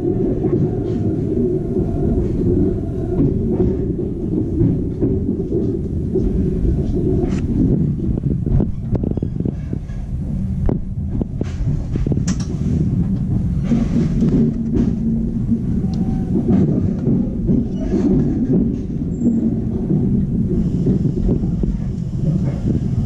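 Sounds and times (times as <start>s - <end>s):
train coach rumbling: 0.0s - 23.0s.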